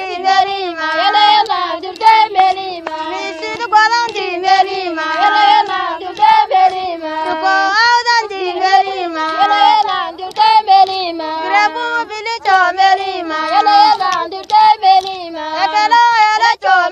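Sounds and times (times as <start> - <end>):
person singing high melody: 0.0 - 16.9.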